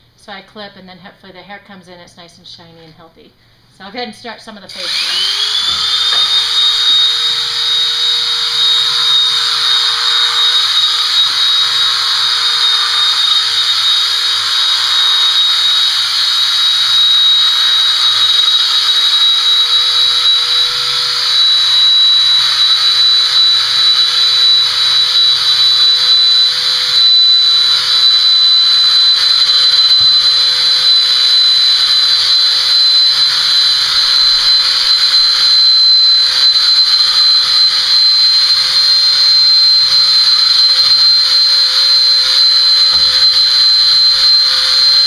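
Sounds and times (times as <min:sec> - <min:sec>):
electric clippers whining: 0:04.7 - 0:45.0.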